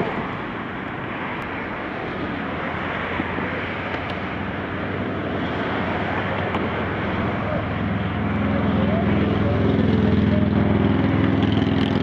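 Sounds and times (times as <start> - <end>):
road traffic rumble and hiss: 0.0 - 12.0.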